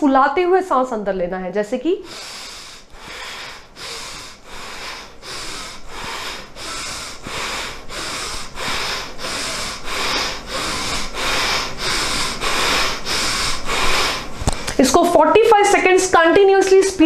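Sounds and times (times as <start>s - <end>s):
rapid forceful nasal breathing: 2.0s - 15.9s.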